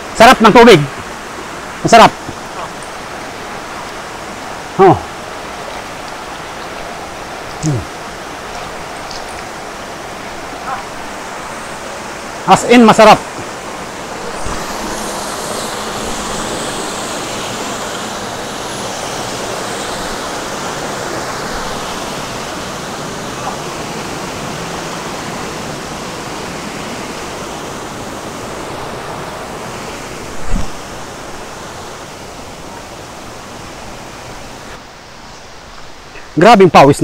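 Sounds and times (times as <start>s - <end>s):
stream water rushing: 0.0s - 37.0s.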